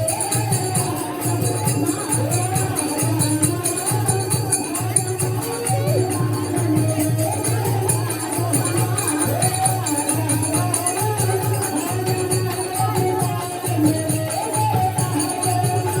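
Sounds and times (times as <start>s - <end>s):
devotional singing: 0.0s - 16.0s
jingling tambourine: 0.0s - 16.0s
steady drum beat: 0.0s - 16.0s.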